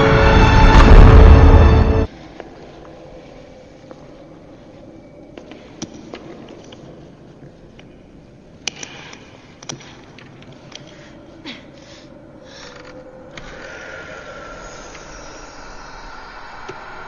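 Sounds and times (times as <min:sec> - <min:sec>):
eerie tone with low hum: 0:00.0 - 0:17.0.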